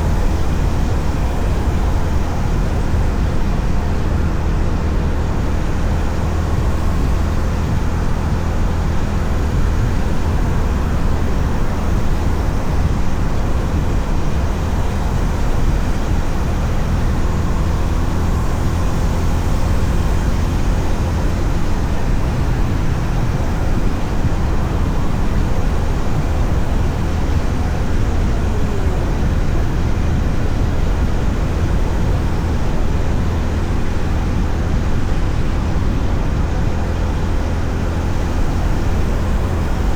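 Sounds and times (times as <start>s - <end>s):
road noise: 0.0s - 39.9s
wind noise: 0.0s - 39.9s.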